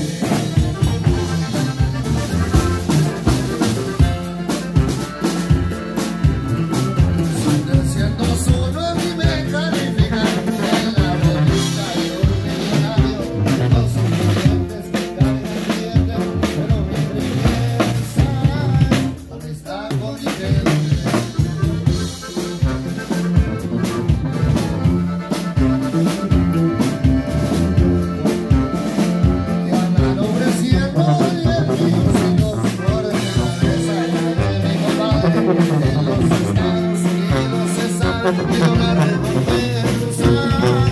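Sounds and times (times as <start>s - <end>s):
button accordion melody: 0.0s - 40.9s
drum kit beat: 0.0s - 40.9s
sousaphone bass line: 0.0s - 40.9s.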